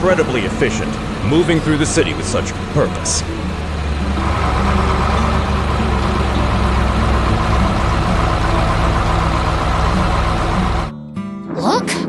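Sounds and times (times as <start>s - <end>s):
heavy truck engine running: 0.0s - 10.9s.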